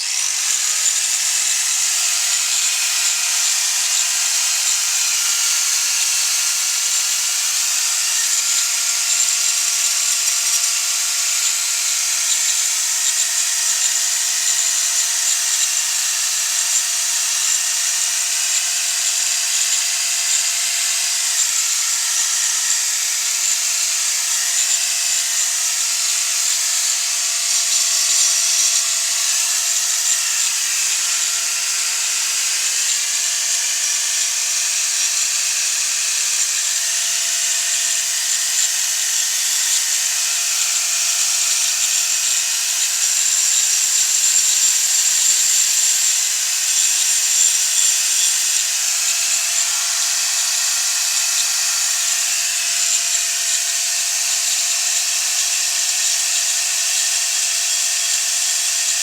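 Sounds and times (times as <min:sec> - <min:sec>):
power tool running: 0:00.0 - 0:59.0.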